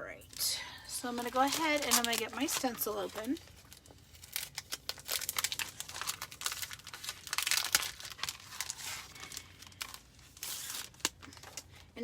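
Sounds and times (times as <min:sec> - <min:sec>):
packaging crinkling and rustling: 0:00.9 - 0:12.0.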